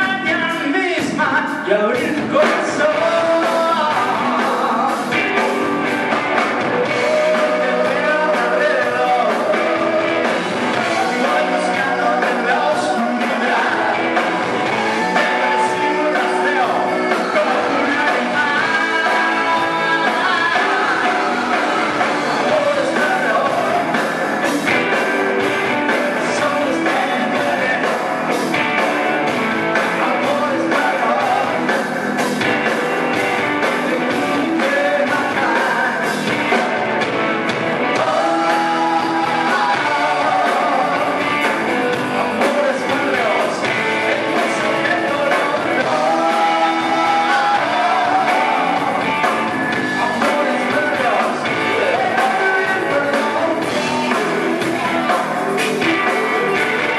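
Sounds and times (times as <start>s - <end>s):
man singing into a microphone: 0.0s - 5.5s, 6.7s - 24.6s, 25.8s - 28.1s, 29.2s - 32.0s, 33.6s - 36.8s, 37.9s - 56.9s
drums with steady beat: 0.0s - 56.9s
electric guitar: 0.0s - 56.9s.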